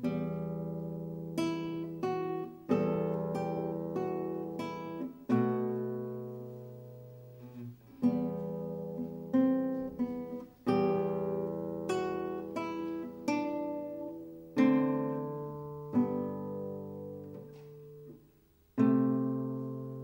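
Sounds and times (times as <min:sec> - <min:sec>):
classical guitar fingerstyle chords: 0:00.0 - 0:20.0.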